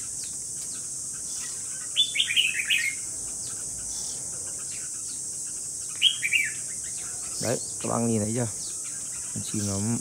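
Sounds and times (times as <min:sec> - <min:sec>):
bird song chirpy notes: 0:00.0 - 0:10.0
steady high-pitched hiss: 0:00.0 - 0:10.0.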